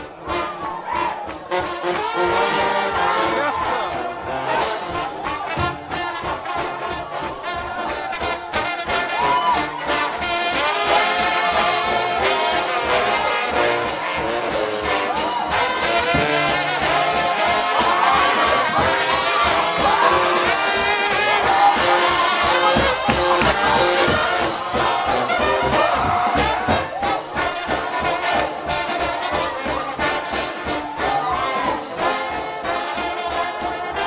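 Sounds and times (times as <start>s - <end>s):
steady drum beat: 0.0s - 34.0s
trombone band playing gospel: 0.0s - 34.0s.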